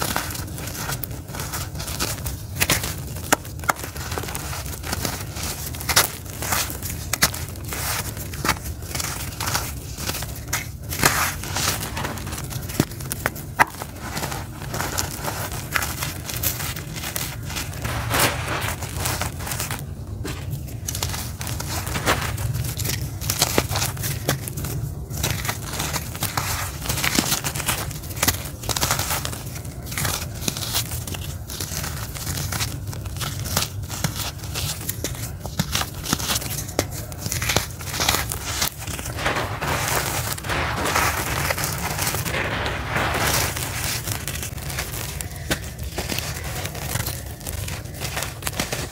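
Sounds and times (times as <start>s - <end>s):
charcoal pieces snapping: 0.0s - 48.9s
hands crumbling charcoal: 0.0s - 48.9s.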